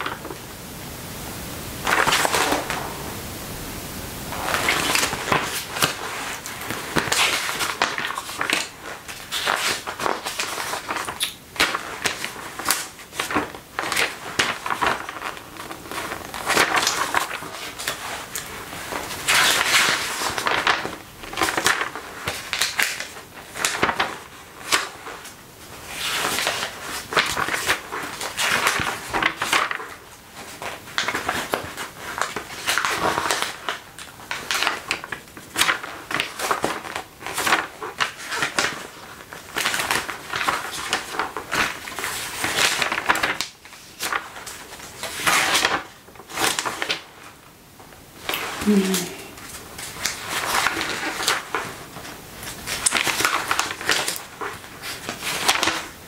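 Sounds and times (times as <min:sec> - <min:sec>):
magazine pages turning: 0:01.8 - 0:03.2, 0:04.3 - 0:47.3, 0:49.4 - 0:56.0.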